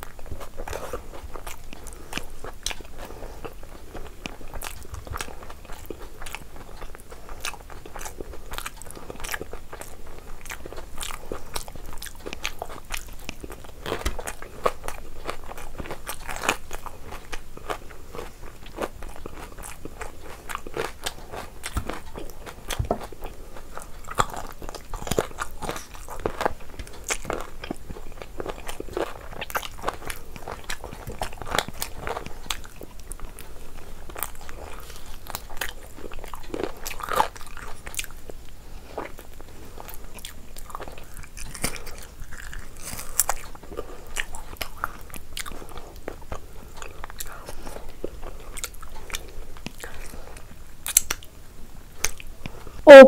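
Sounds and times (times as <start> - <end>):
person chewing meat: 0.0 - 53.0.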